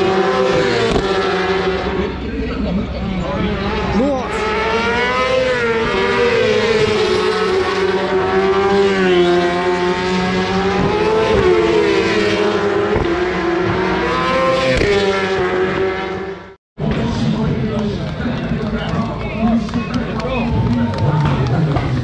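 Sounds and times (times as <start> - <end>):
racing motorcycles at high revs: 0.0 - 18.2.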